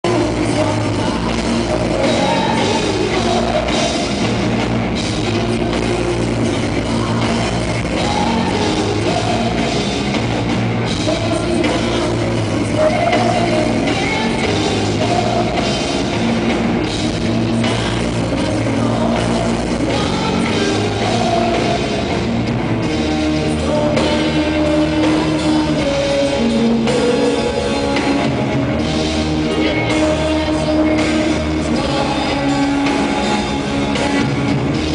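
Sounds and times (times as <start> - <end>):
drum kit beat: 0.0 - 34.9
rock band playing live: 0.0 - 34.9.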